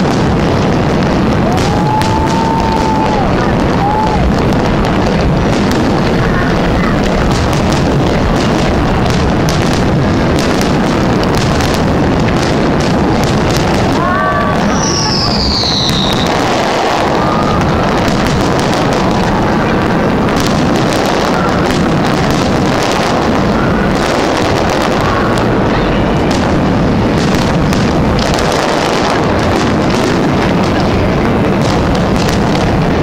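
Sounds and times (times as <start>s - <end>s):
continuous loud rumble: 0.0s - 33.0s
fireworks cracks and bangs: 0.0s - 33.0s.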